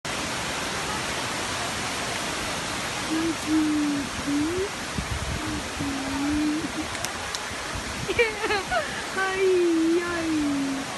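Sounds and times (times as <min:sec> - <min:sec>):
waterfall rushing: 0:00.1 - 0:10.9.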